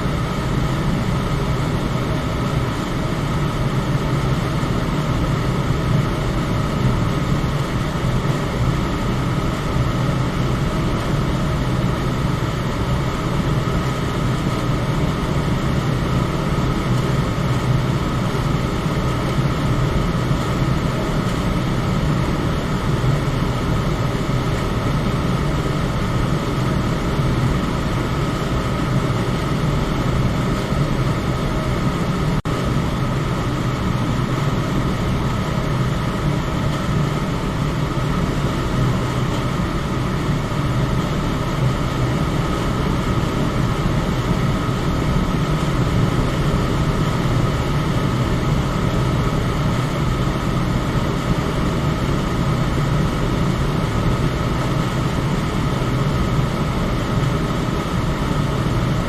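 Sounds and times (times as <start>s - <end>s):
electric fan whirring: 0.0s - 59.0s.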